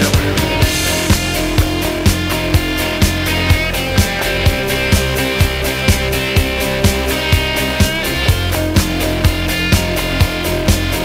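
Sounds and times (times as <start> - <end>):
rock music with guitar: 0.0 - 11.0
steady drum beat: 0.0 - 11.0.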